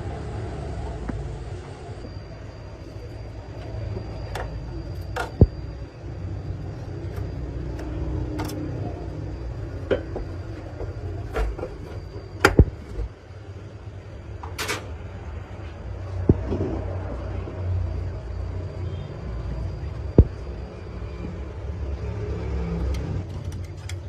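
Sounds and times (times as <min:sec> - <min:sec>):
steady low rumble: 0:00.0 - 0:14.4, 0:15.0 - 0:24.0.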